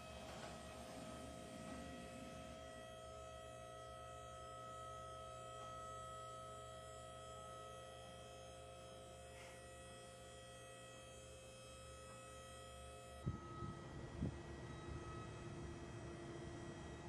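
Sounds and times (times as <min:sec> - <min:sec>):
faint electric hum with whining: 0:00.0 - 0:17.0.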